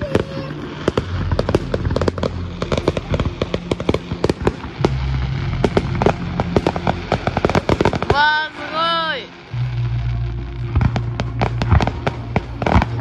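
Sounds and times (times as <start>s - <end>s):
fireworks cracking and popping: 0.0s - 13.0s
low rumble: 0.0s - 13.0s.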